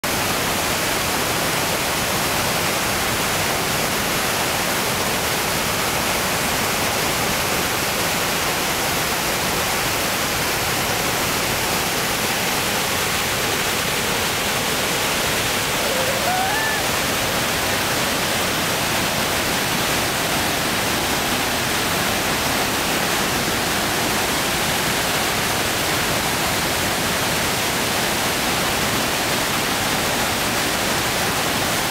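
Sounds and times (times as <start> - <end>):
river rapids rushing: 0.1 - 31.9.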